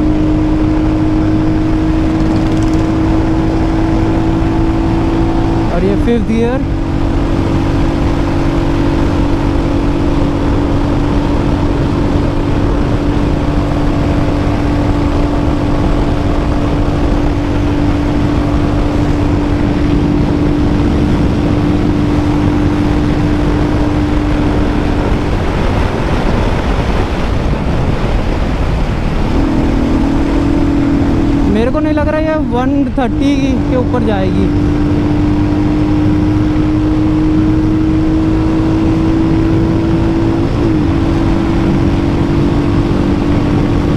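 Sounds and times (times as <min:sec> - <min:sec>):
motorcycle engine at high revs: 0:00.0 - 0:43.9
wind rush on microphone: 0:00.0 - 0:43.9.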